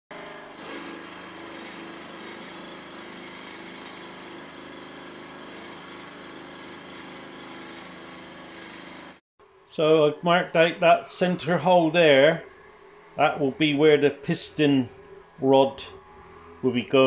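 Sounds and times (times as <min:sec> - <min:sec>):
milling machine hum and whine: 0:00.1 - 0:17.0.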